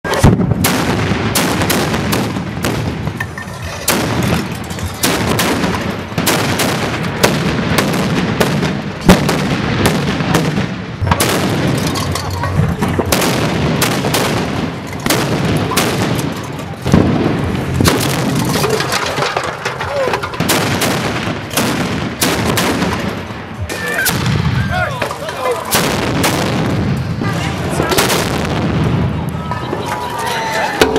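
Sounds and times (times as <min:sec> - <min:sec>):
carbide cannon bangs with echo: 0:00.1 - 0:03.2, 0:03.9 - 0:12.2, 0:13.0 - 0:23.3, 0:24.1 - 0:27.0, 0:27.9 - 0:29.1.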